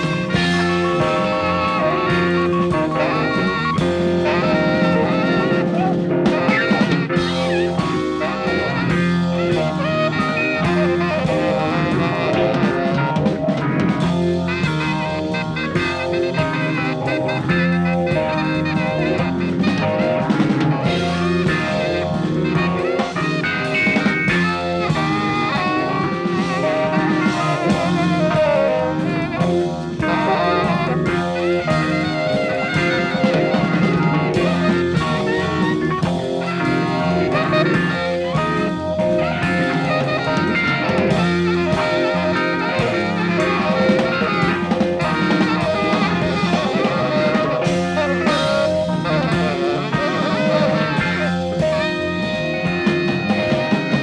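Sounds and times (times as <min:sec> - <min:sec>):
drum kit beat: 0:00.0 - 0:54.0
jazz fusion band playing: 0:00.0 - 0:54.0.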